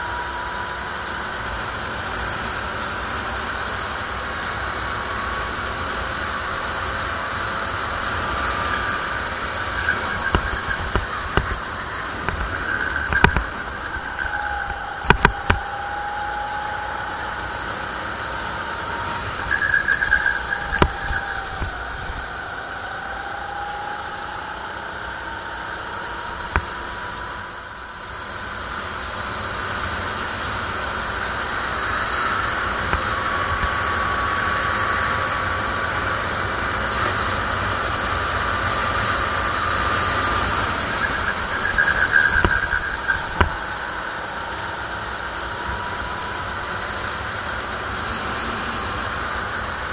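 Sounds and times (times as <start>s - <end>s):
kart engine revving: 0.0s - 49.9s.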